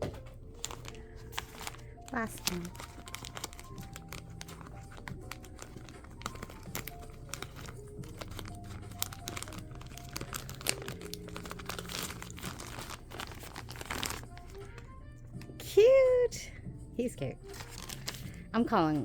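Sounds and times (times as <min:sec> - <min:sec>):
cardboard rustling and tearing: 0:00.0 - 0:14.9, 0:17.5 - 0:18.3
soft background music: 0:00.0 - 0:19.0
wrapper crinkling: 0:00.1 - 0:15.6, 0:17.4 - 0:18.5.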